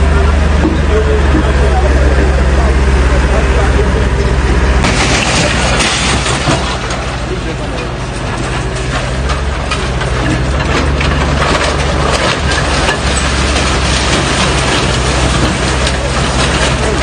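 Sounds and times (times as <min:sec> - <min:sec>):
crackling and crunching noise: 0:00.0 - 0:17.0
heavy machine engine humming: 0:00.0 - 0:17.0.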